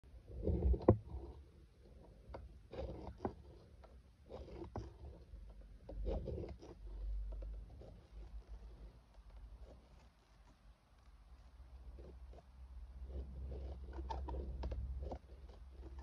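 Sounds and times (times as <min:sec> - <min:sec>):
pen scratching on plastic: 0:00.3 - 0:16.0.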